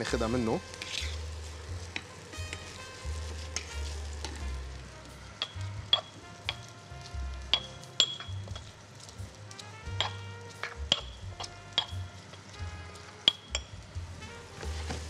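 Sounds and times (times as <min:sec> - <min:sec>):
onion sizzling in frying pan: 0:00.0 - 0:15.0
spatula stirring: 0:00.5 - 0:13.7.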